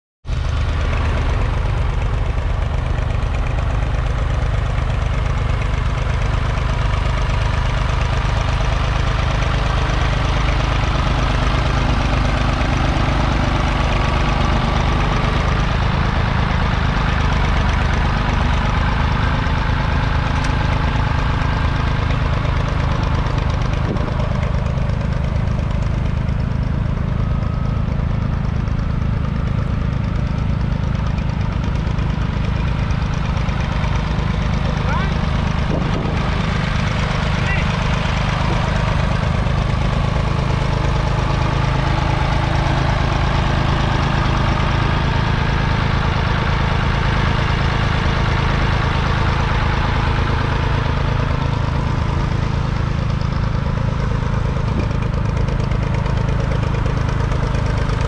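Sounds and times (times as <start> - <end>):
diesel engine throbbing: 0.3 - 58.0.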